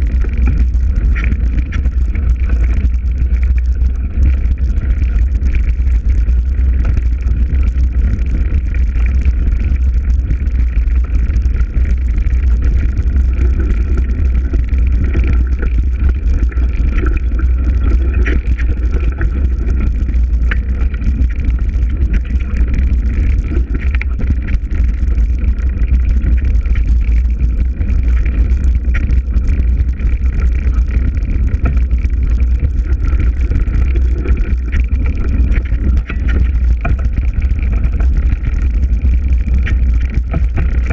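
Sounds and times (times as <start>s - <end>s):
wind rumbling on microphone: 0.0s - 40.9s.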